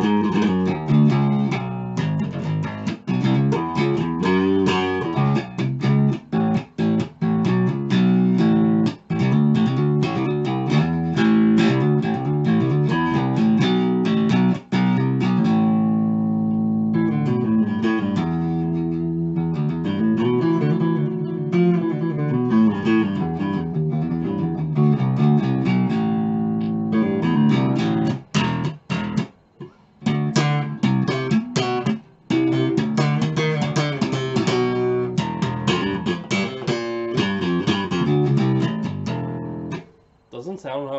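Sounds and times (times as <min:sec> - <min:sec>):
electric bass riffs: 0:00.0 - 0:40.3.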